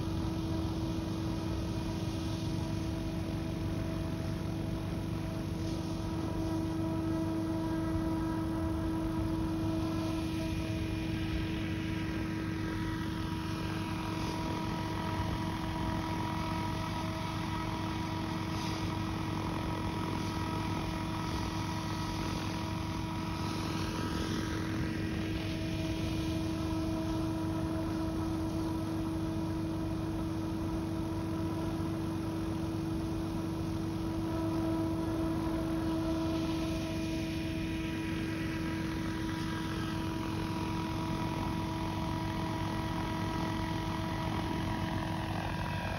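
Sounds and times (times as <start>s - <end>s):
model helicopter hovering hum: 0.0s - 45.9s.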